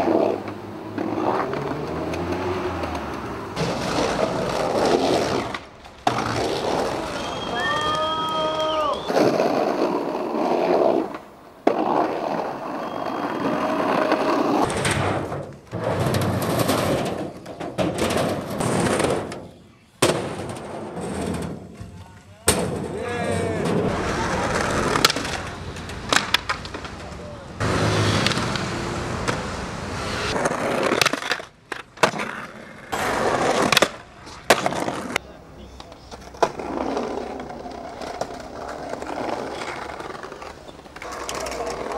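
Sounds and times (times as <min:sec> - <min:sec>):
skateboard clack: 0:00.0 - 0:27.4, 0:30.3 - 0:41.9
skateboard wheels rolling on bricks: 0:00.0 - 0:41.9.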